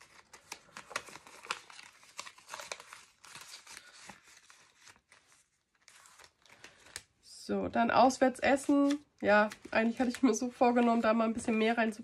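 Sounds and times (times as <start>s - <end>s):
banknotes and plastic rustling: 0.0s - 7.2s, 8.0s - 12.0s.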